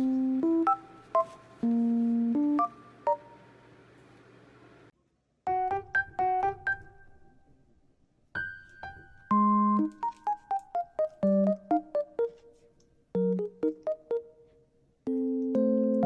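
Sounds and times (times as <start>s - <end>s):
bouncy electric piano melody: 0.0s - 3.5s, 5.5s - 7.2s, 8.4s - 16.0s.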